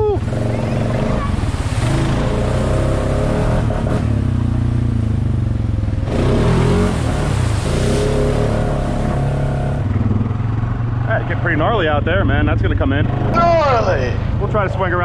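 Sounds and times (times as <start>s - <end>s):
atv engine under throttle: 0.0s - 14.4s.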